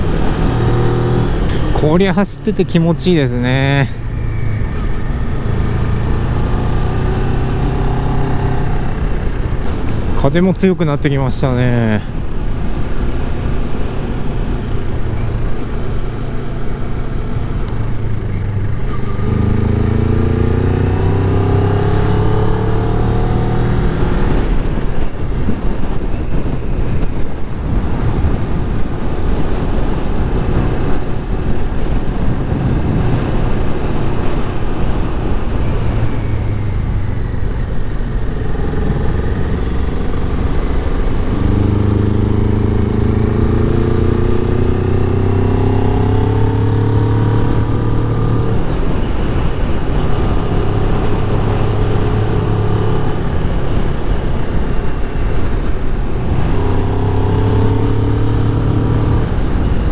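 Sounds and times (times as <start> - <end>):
motorcycle engine accelerating: 0.0 - 10.2, 12.6 - 59.9
wind rush on microphone: 0.0 - 59.9.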